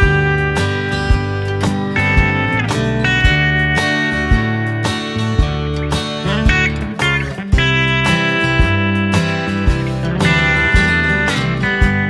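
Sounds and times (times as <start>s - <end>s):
plucked guitar music with beat: 0.0s - 12.0s.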